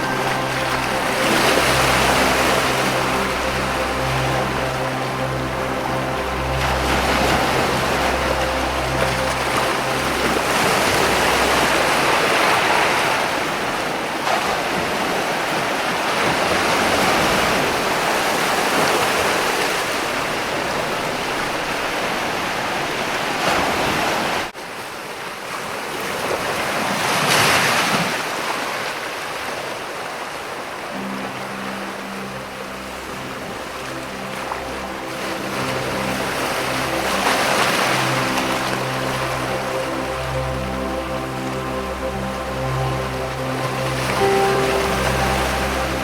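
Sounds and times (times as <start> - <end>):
ocean waves breaking on rocks: 0.0 - 46.0.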